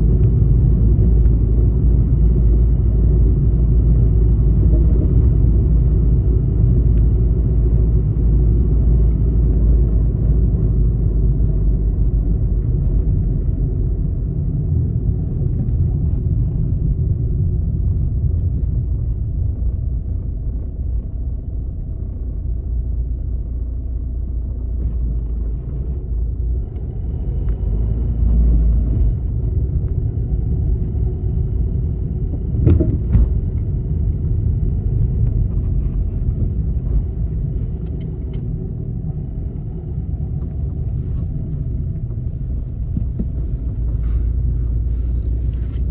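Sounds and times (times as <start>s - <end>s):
car tyres and engine rumble: 0.0s - 45.9s.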